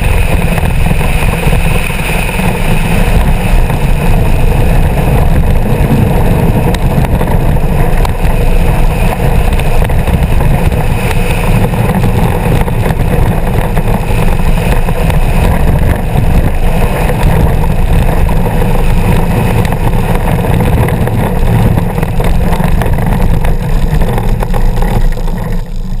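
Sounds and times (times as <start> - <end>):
wheels rumbling on asphalt: 0.0 - 26.0
wind buffeting microphone: 0.0 - 26.0.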